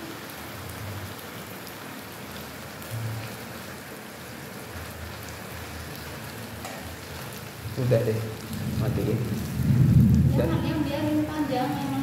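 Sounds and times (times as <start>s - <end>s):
shrimp sizzling in a frying pan: 0.0s - 12.0s.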